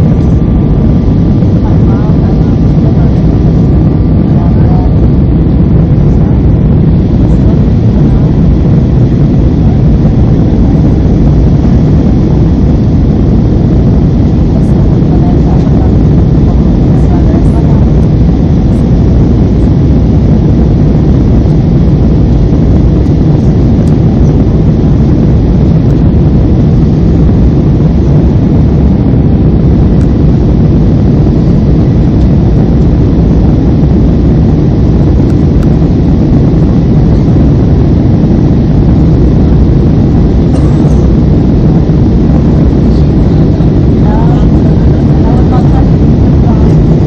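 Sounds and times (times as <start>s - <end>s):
jet engine cabin rumble: 0.0s - 47.0s.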